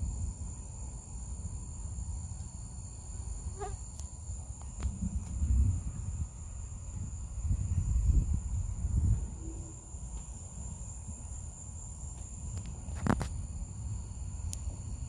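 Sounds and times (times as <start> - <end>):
crickets trilling: 0.0 - 15.0
low uneven rumble: 0.0 - 15.0.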